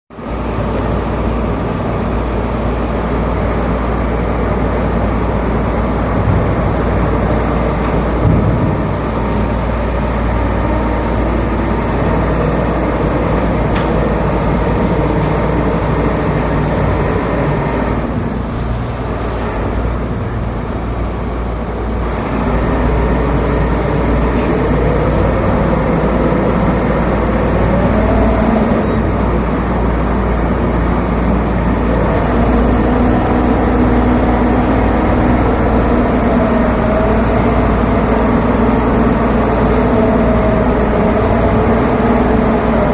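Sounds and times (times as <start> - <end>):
heavy cargo machinery running: 0.1 - 42.9
rising machine whine: 3.3 - 18.8, 21.2 - 42.9.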